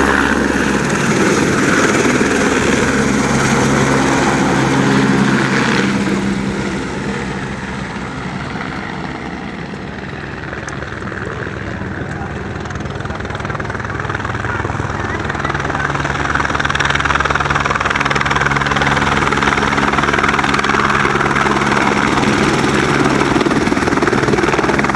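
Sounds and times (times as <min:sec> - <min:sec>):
helicopter rotor and turbine: 0:00.0 - 0:24.9.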